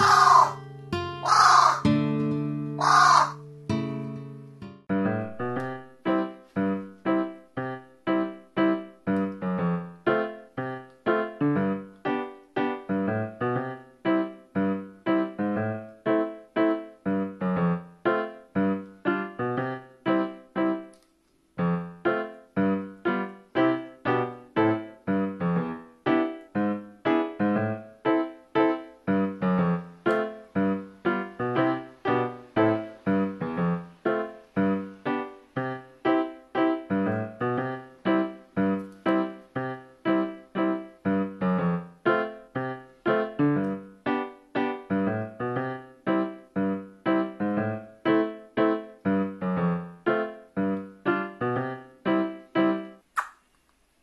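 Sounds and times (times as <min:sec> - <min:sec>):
piano notes: 0:00.0 - 0:53.0.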